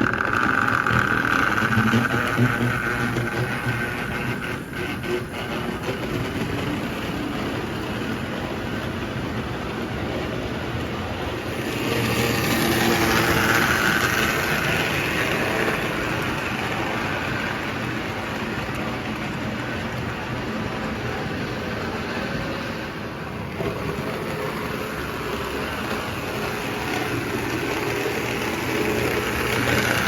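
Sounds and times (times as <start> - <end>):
wheels rumbling on rails: 0.0 - 30.0.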